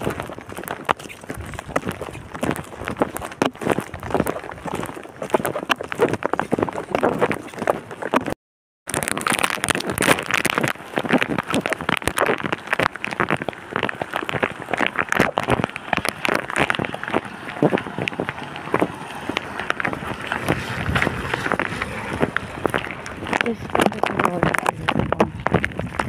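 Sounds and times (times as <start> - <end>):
rain on a wet street: 0.0 - 6.0, 8.9 - 26.0.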